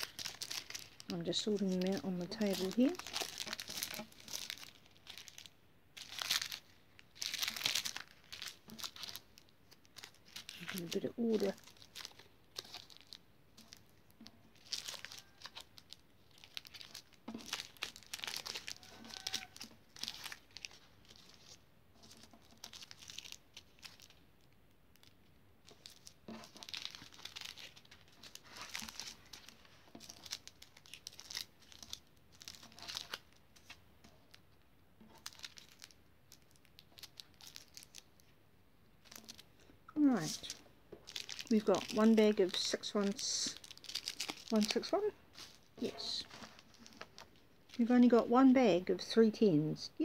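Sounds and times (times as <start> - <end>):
plastic bags crinkling: 0.0 - 48.2.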